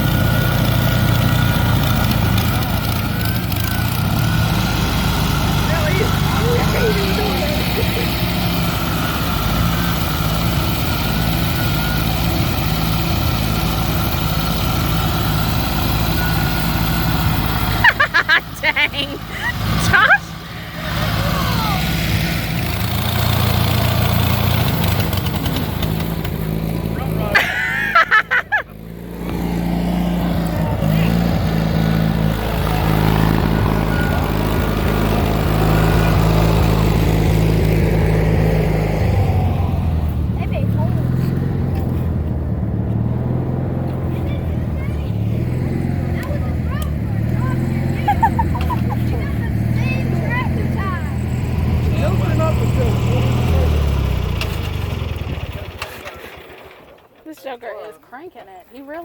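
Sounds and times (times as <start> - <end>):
riding lawnmower engine running: 0.0 - 59.0.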